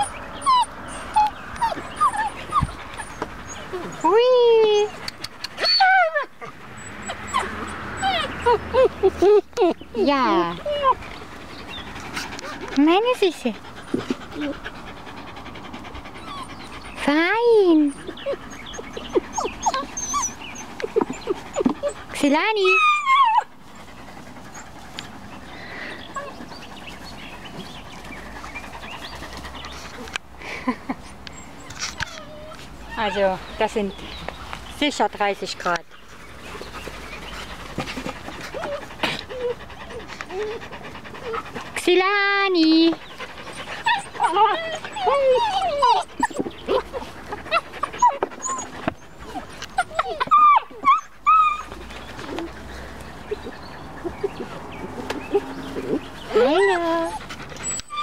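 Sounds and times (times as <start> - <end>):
puppy whimpering and yelping: 0.0 - 9.7, 10.3 - 12.7, 13.7 - 30.1, 31.0 - 33.7, 38.0 - 41.6, 43.1 - 58.0
low outdoor background: 0.0 - 58.0.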